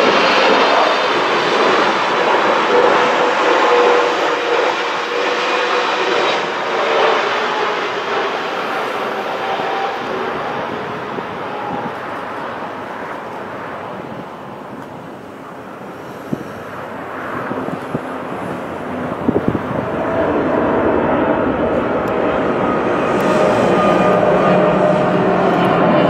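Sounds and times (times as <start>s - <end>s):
jet engine noise: 0.0s - 26.0s
jet engine whine: 0.0s - 26.0s.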